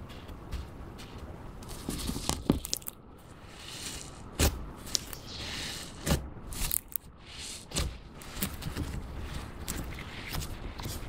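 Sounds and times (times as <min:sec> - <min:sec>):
slime gritty rustle: 0:01.0 - 0:11.0.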